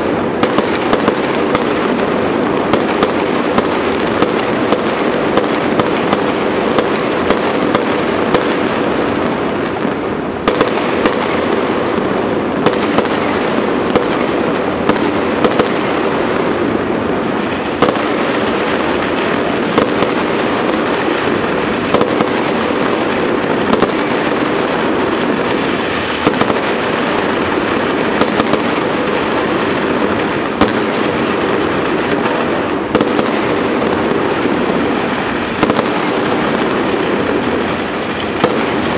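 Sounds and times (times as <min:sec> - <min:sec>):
fireworks crackling: 0:00.0 - 0:38.9
fireworks sharp bangs: 0:00.0 - 0:38.9.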